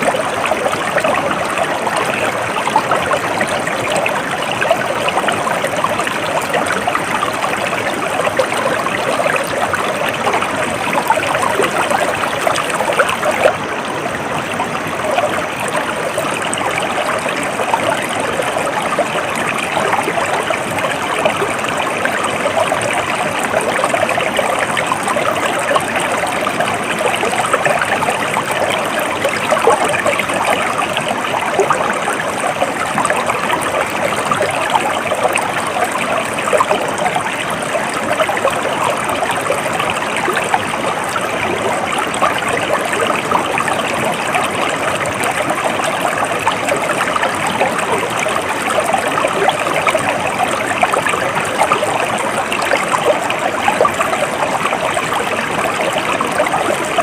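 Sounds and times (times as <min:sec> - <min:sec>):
stream of water flowing: 0:00.0 - 0:57.0.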